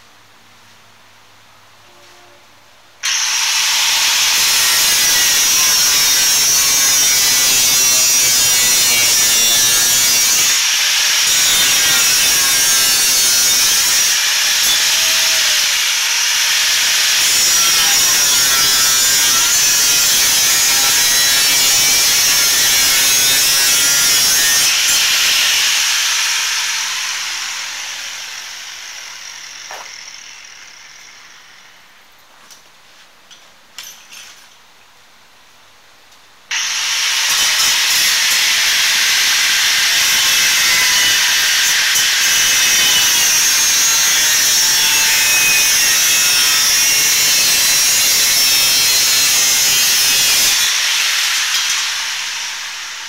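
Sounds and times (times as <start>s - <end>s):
angle grinder cutting metal: 3.0s - 32.0s, 36.5s - 53.0s.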